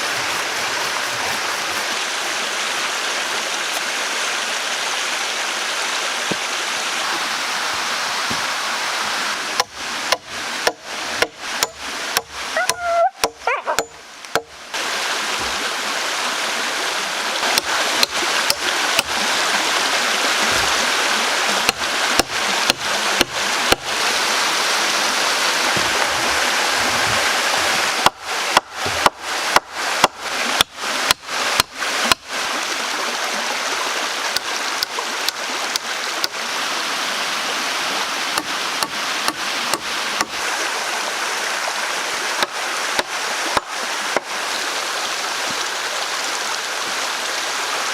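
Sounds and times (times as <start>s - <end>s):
water flowing: 0.0s - 47.9s.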